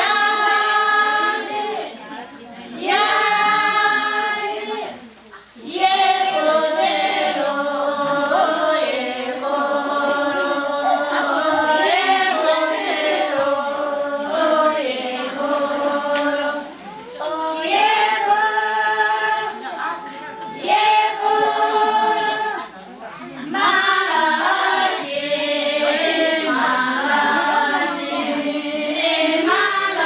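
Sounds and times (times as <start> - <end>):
women singing in unison: 0.0 - 30.0.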